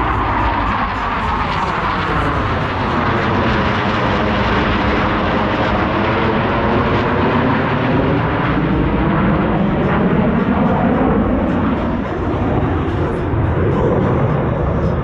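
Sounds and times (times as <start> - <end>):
jet engines roaring overhead: 0.0 - 15.0.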